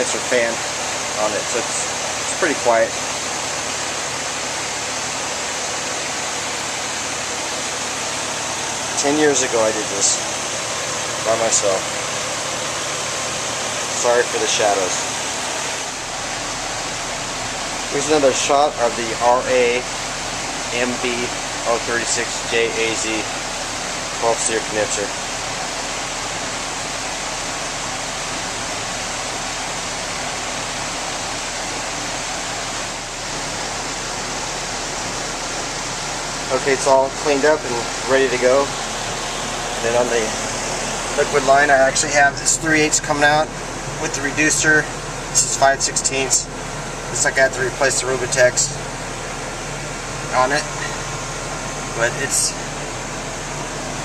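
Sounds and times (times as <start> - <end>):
condenser fan rushing air: 0.0 - 54.0
muffled compressor: 0.0 - 54.0.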